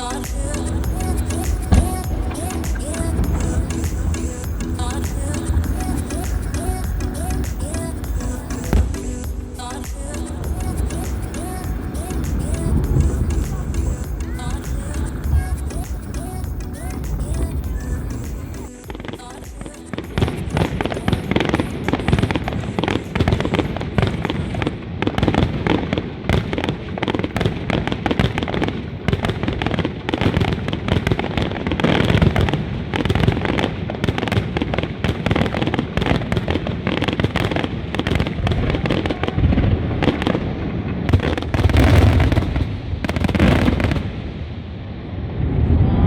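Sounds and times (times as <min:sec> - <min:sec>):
fireworks cracking and popping: 0:00.0 - 0:44.4.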